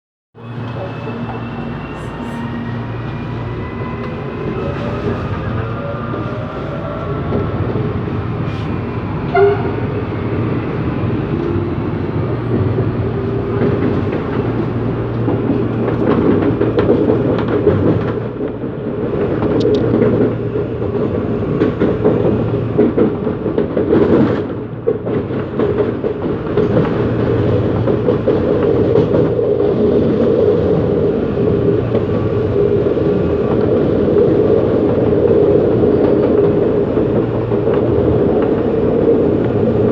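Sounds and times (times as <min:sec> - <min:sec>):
traction motors droning and whining: 0:00.4 - 0:39.9.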